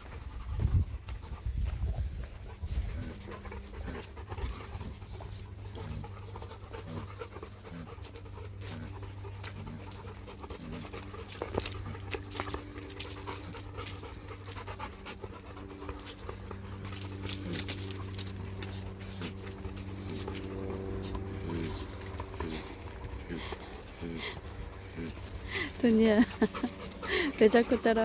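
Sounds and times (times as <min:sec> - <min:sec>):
dog panting: 0:00.0 - 0:28.0.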